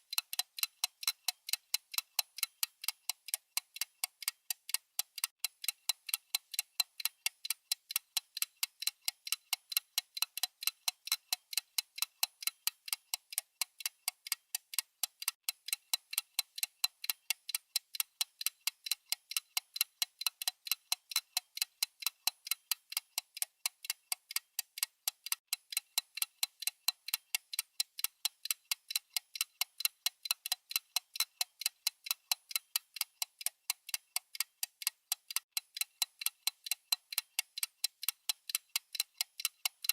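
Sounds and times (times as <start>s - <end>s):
watch ticking: 0.0s - 39.9s.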